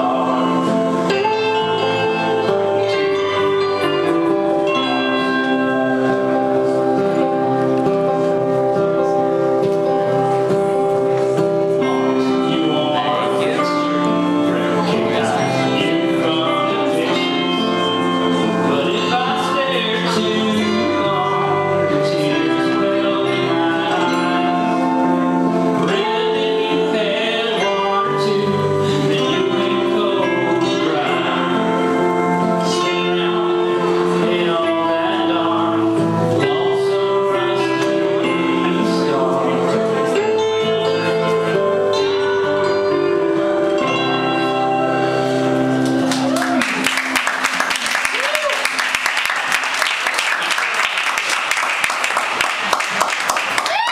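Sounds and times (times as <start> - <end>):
person singing: 0.0 - 46.9
guitar playing: 0.0 - 50.6.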